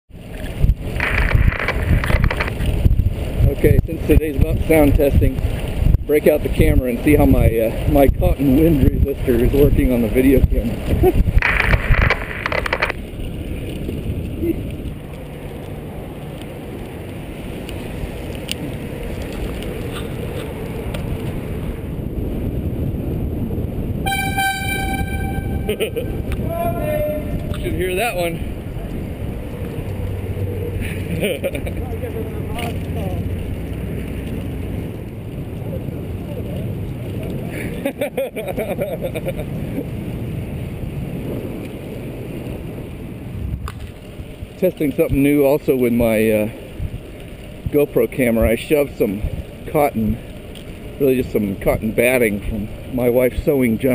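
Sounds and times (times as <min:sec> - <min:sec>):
rolling rumble of trike: 0:00.1 - 0:53.9
wind buffeting microphone: 0:00.1 - 0:53.9.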